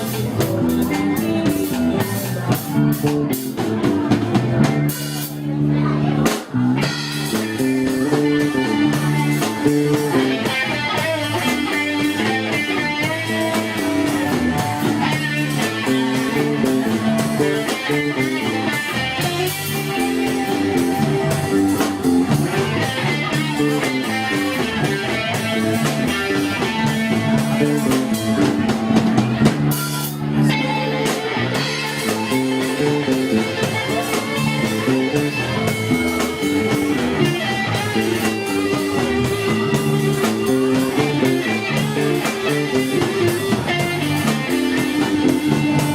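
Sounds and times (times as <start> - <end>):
rock band playing live: 0.0 - 45.9.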